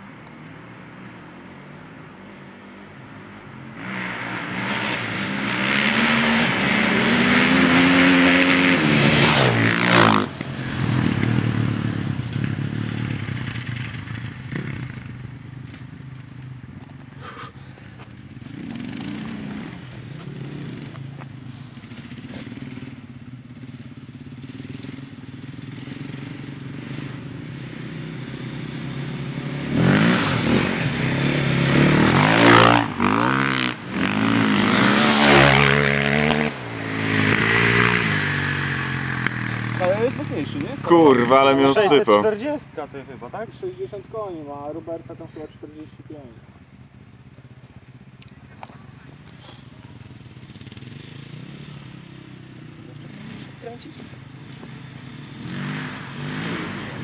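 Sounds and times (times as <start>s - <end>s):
dirt bike engines revving: 0.0s - 57.0s
dirt bike passing close: 0.0s - 57.0s.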